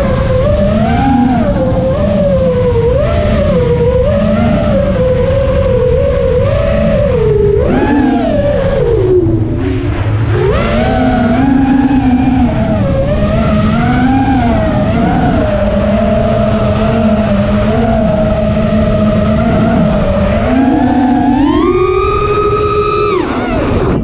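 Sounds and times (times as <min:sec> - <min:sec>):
drone motors whining: 0:00.0 - 0:24.0
wind noise: 0:00.0 - 0:24.0.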